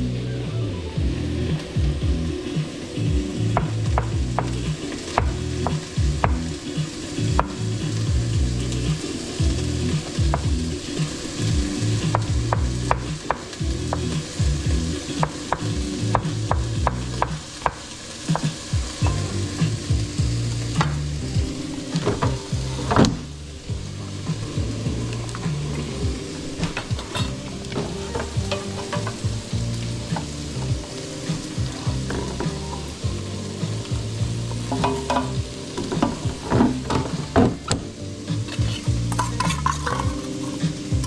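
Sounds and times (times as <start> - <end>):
food sizzling in a frying pan: 1.0 - 41.0.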